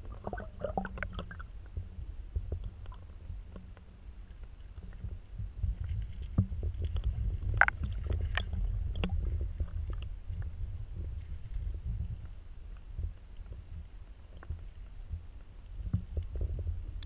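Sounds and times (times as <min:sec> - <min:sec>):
small underwater clicks: 0:00.0 - 0:17.0
underwater river current rumble: 0:00.0 - 0:17.0.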